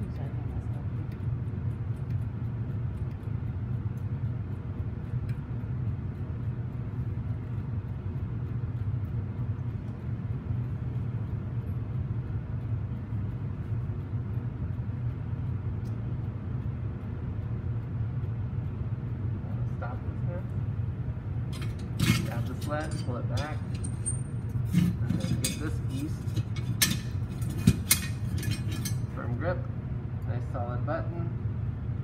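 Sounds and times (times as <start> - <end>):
casting machine rumbling: 0.0 - 32.0.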